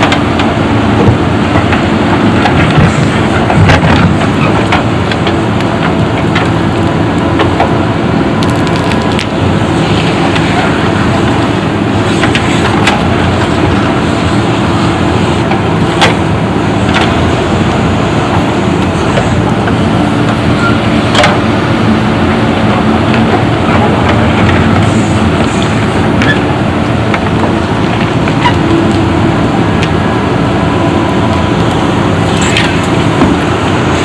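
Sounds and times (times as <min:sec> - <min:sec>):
diesel engine running under load: 0:00.0 - 0:34.0.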